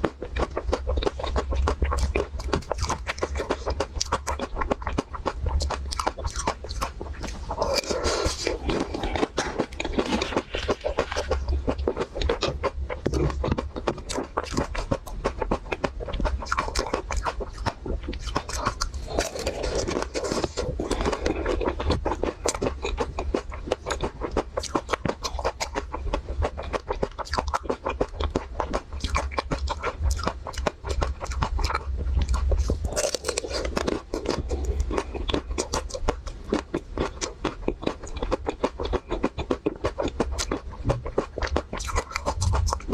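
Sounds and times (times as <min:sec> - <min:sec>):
chewing and crunching ice cream bar: 0:00.0 - 0:42.9
wet mouth sounds: 0:00.0 - 0:42.9.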